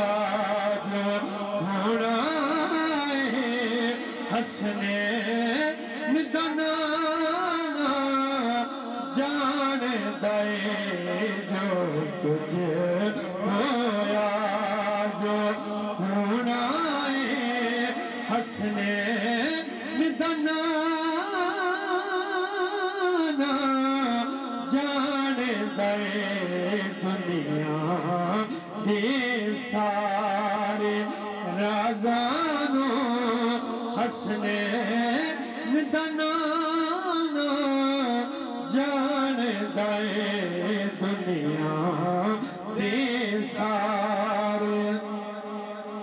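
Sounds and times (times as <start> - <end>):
man singing: 0.0 - 46.0.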